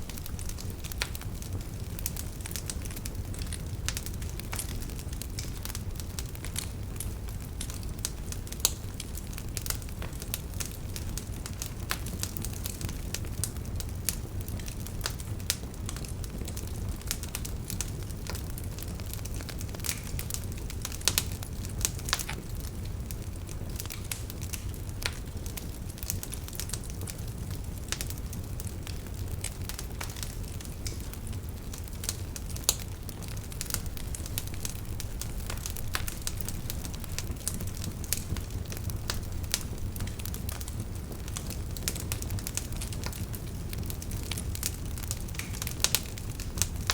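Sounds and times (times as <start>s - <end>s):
fire crackling and popping: 0.0s - 46.9s
fire flames rumbling: 0.0s - 46.9s.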